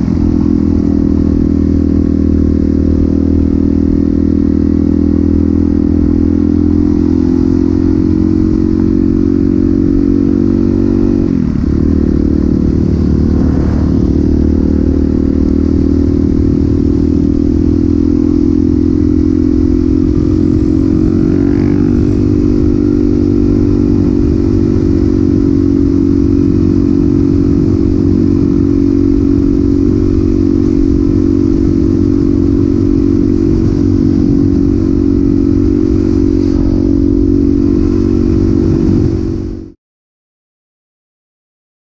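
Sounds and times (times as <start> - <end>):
motorcycle engine running: 0.0 - 39.8.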